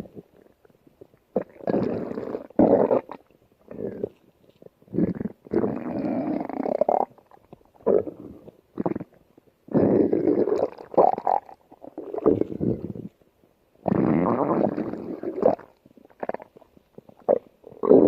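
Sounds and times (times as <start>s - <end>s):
stomach growling: 0.0s - 13.2s, 13.8s - 18.0s.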